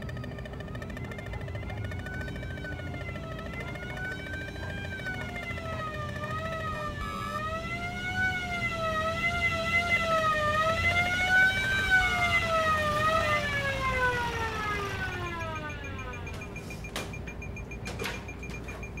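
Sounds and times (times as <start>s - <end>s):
emergency siren wailing: 0.0s - 18.1s.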